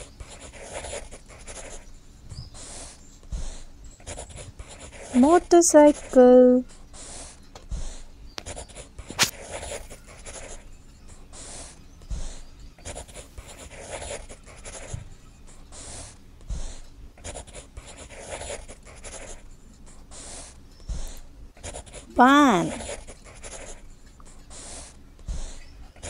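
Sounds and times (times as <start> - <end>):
pencil scratching on paper: 0.0 - 1.9, 2.6 - 6.2, 7.0 - 10.7, 11.3 - 15.0, 15.7 - 22.1, 22.8 - 25.6.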